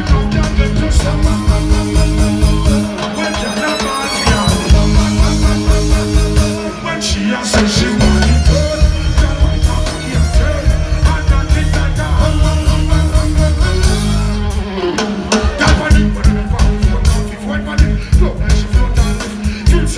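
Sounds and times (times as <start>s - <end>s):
live reggae band music: 0.0s - 19.9s.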